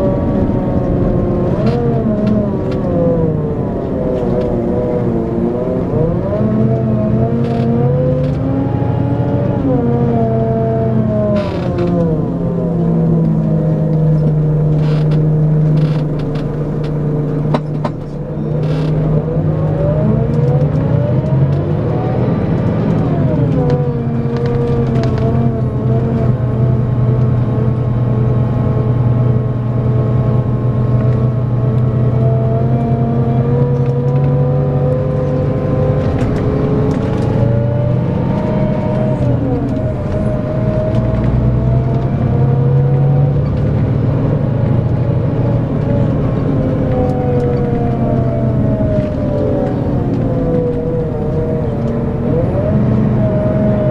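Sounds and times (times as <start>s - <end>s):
diesel engine revving under load: 0.0s - 53.9s.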